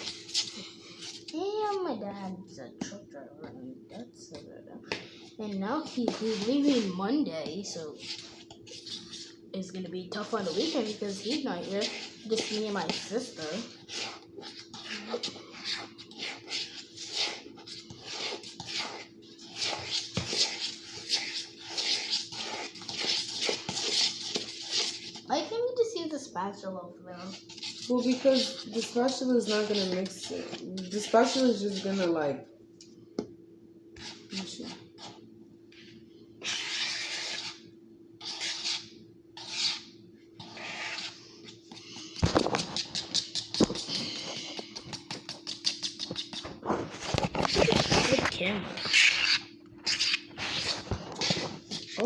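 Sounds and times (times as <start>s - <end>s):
scraping strokes: 0.0s - 1.6s, 5.0s - 25.3s, 27.1s - 32.2s, 34.0s - 52.0s
batter stirred in a bowl: 0.0s - 52.0s.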